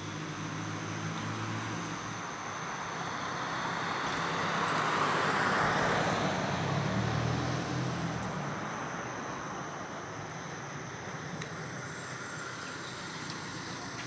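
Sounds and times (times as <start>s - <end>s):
car passing: 0.3s - 14.0s.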